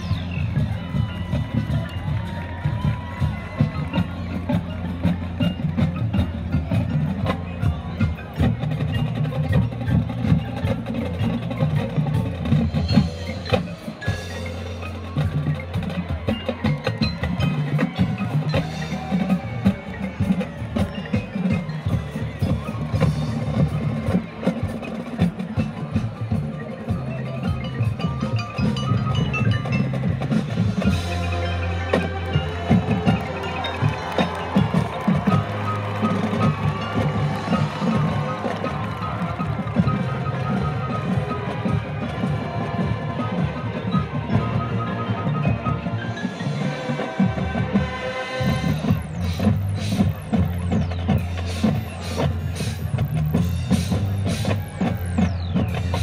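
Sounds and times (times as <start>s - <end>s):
drums: 0.0s - 56.0s
marching band playing: 0.0s - 56.0s
marimbas: 0.0s - 56.0s.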